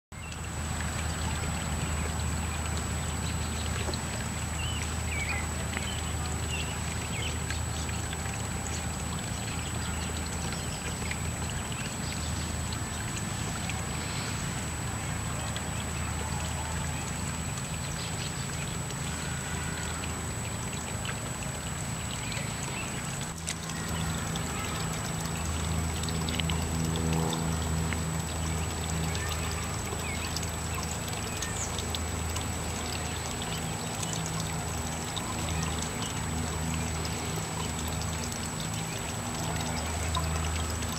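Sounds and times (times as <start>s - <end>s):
creek water trickling over rocks: 0.1s - 40.9s
low steady hum: 0.2s - 40.9s.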